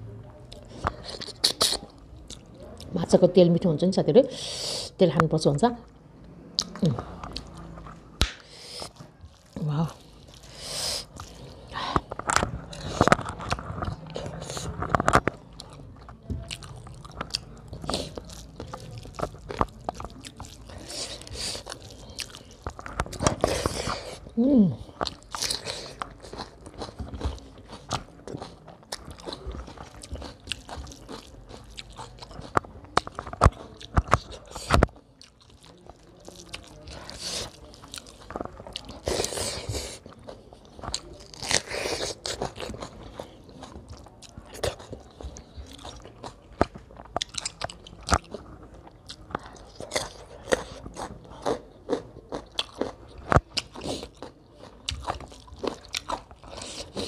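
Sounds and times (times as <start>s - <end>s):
person chewing: 0.5s - 2.9s, 6.6s - 57.0s.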